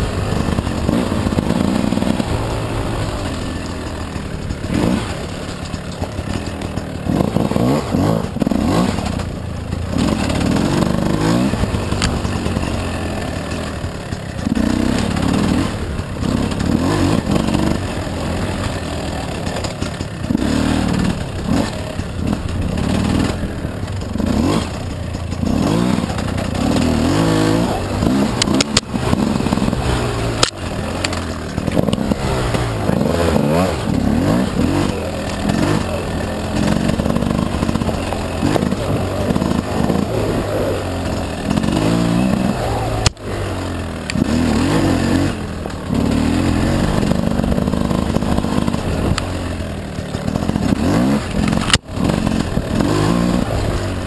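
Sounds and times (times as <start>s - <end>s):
bike clatter: 0.0s - 54.0s
dirt bike engine revving: 0.0s - 54.0s.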